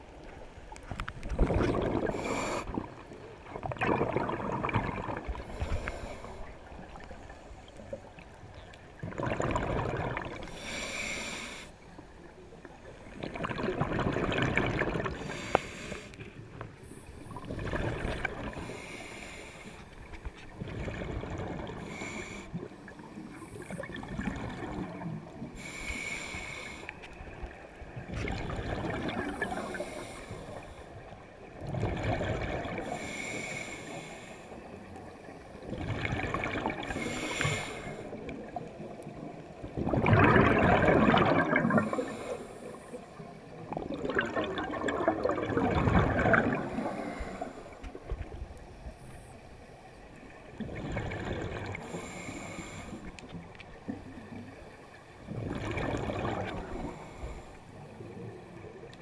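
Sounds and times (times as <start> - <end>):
exhaled bubbles underwater: 0.0 - 10.8, 11.9 - 15.6, 17.0 - 19.0, 20.5 - 25.8, 27.2 - 59.0.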